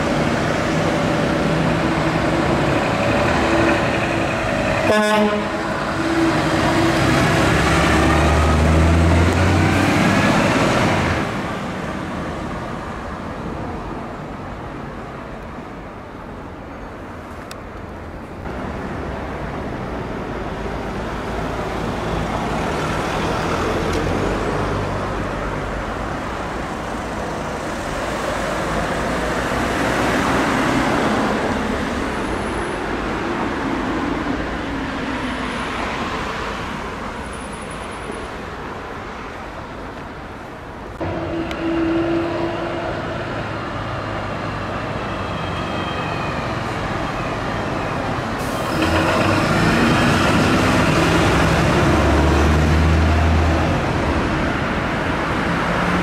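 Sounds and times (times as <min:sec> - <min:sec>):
vehicle engine and tyre noise: 0:00.0 - 0:56.0.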